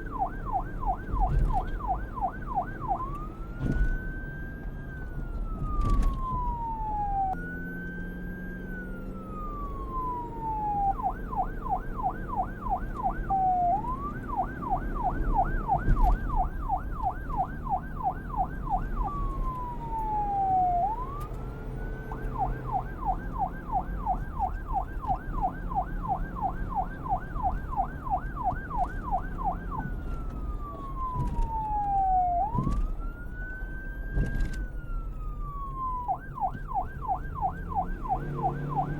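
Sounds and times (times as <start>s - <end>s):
low vehicle rumble: 0.0s - 38.9s
police siren wail and yelp: 0.0s - 38.9s.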